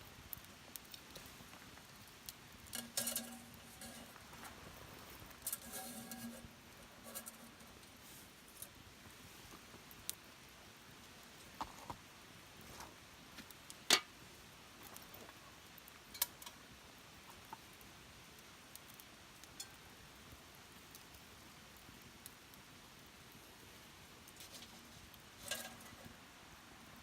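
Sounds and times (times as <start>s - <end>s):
small wood fire crackling: 0.0s - 27.0s.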